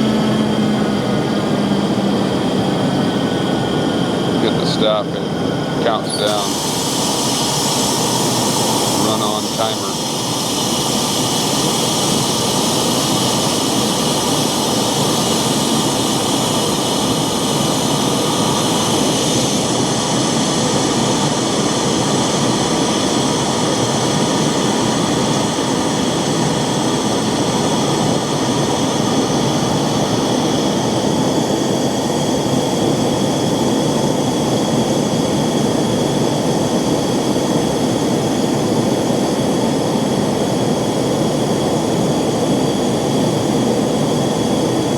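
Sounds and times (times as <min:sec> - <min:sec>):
air compressor running: 0:00.0 - 0:44.9.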